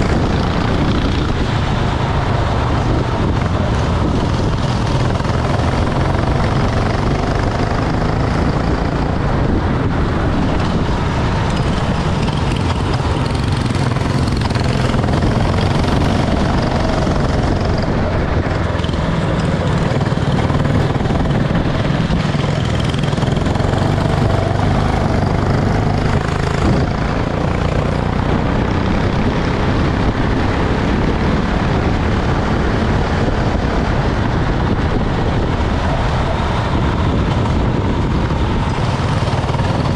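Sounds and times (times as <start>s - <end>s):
racing kart engines: 0.0s - 39.9s
steady rushing noise: 0.0s - 39.9s.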